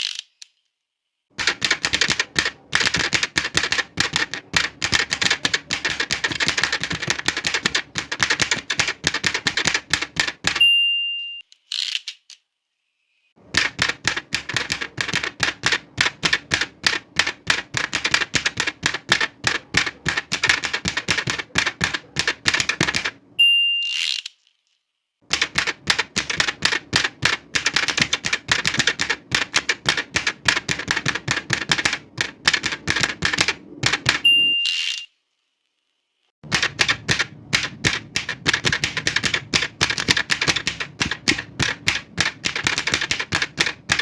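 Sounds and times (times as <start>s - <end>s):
typewriter key strikes: 1.4s - 10.7s, 13.5s - 23.2s, 25.3s - 34.3s, 36.4s - 44.0s
typewriter carriage return: 1.4s - 10.8s, 13.4s - 23.2s, 25.3s - 35.0s, 36.4s - 44.0s
typewriter margin bell: 1.4s - 11.4s, 13.6s - 23.9s, 25.4s - 34.9s, 36.5s - 44.0s.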